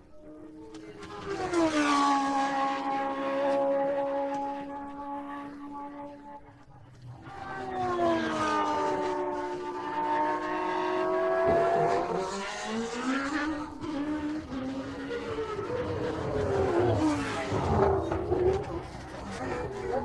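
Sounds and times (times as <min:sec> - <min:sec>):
racing car engine revving: 0:00.1 - 0:20.0.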